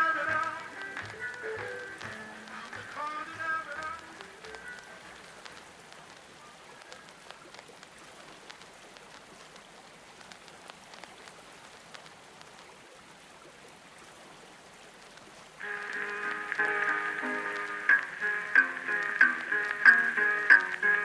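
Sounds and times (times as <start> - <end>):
faint rain-like water noise: 0.0 - 21.0
light clicks and crackles: 0.0 - 21.0.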